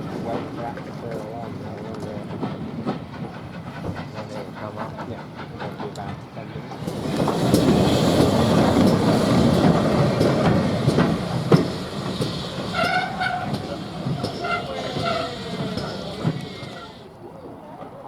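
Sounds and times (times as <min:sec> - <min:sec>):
train wheels clattering on rails: 0:00.0 - 0:17.1.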